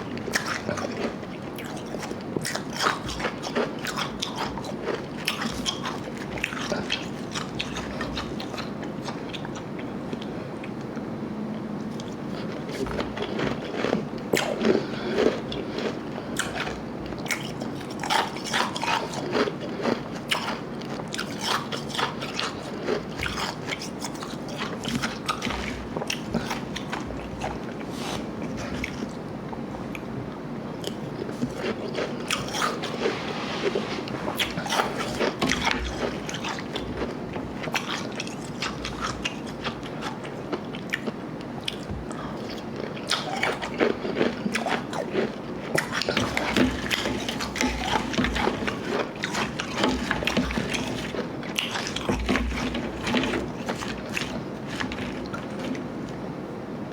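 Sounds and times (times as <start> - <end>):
chewing crunchy ice: 0.0 - 11.0, 11.9 - 56.4.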